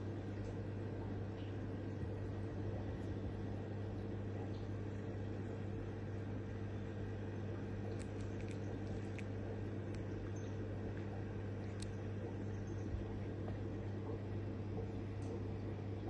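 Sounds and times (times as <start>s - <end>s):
low mechanical appliance hum: 0.0s - 16.0s.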